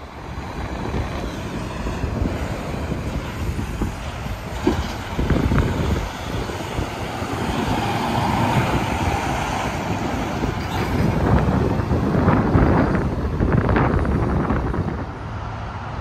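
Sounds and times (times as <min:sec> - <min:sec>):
highway traffic roar: 0:00.0 - 0:16.0.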